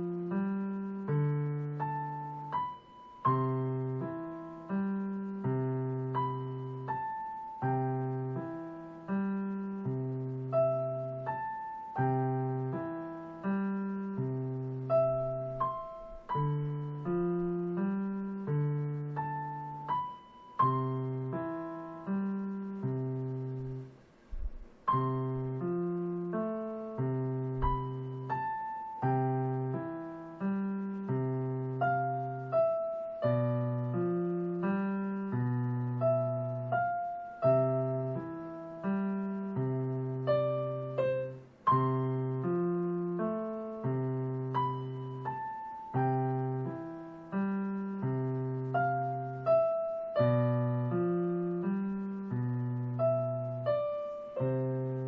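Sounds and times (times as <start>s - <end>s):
gentle digital piano piece: 0.0s - 55.0s.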